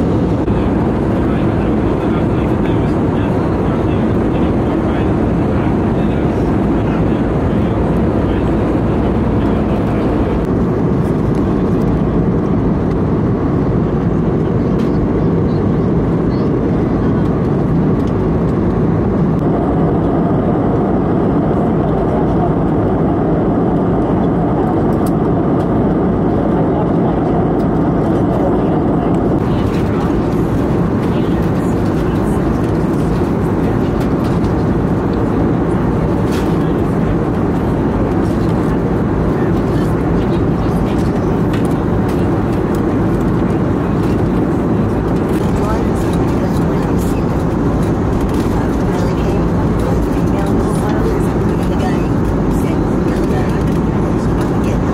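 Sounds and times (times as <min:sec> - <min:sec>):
aircraft cabin engine rumble: 0:00.0 - 0:54.9.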